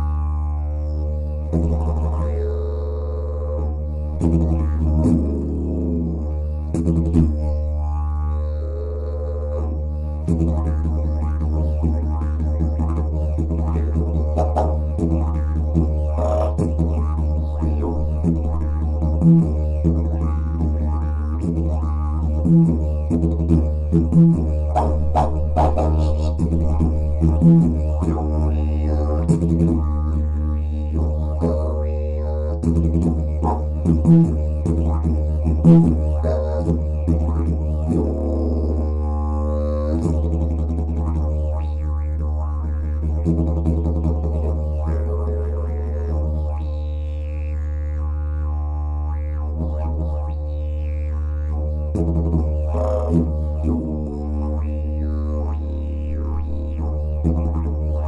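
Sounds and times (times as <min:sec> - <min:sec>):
didgeridoo drone: 0:00.0 - 0:58.0.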